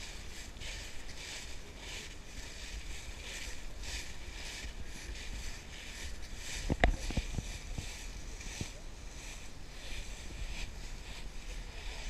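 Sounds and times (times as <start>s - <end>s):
footsteps crunching dry leaves: 0.0s - 12.0s.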